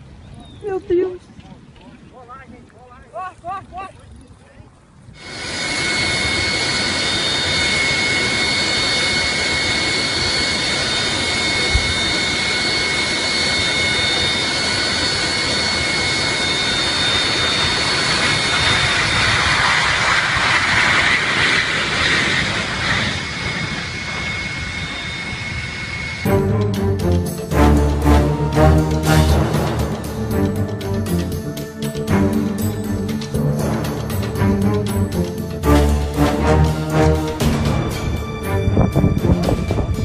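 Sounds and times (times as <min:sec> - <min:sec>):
jet engines whining: 0:05.2 - 0:40.0.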